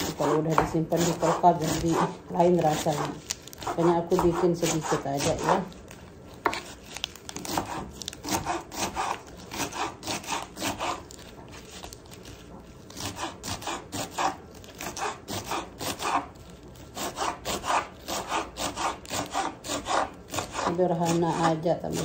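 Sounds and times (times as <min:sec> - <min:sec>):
knife chopping lettuce on board: 0:00.0 - 0:05.8, 0:06.4 - 0:06.8, 0:07.4 - 0:16.3, 0:16.9 - 0:22.0.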